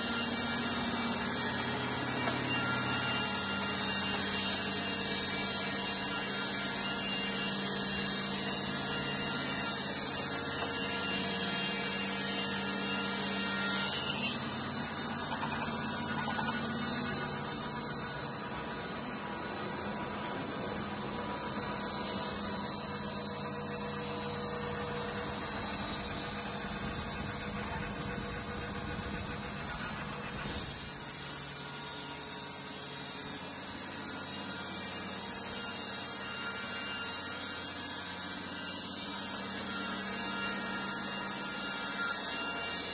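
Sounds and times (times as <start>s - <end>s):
sawmill machinery humming and hissing: 0.0s - 42.9s.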